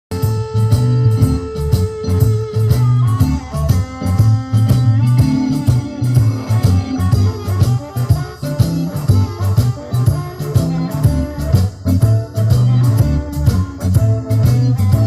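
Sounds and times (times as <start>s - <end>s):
blues guitar music: 0.1s - 15.0s.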